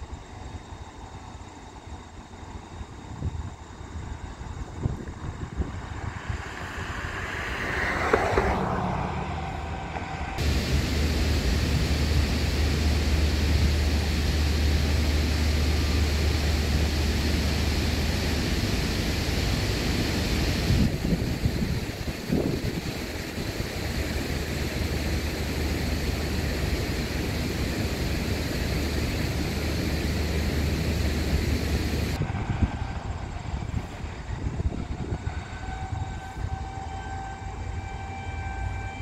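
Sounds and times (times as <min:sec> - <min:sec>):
ship engine drone: 0:00.0 - 0:39.0
wind on microphone: 0:03.1 - 0:36.7.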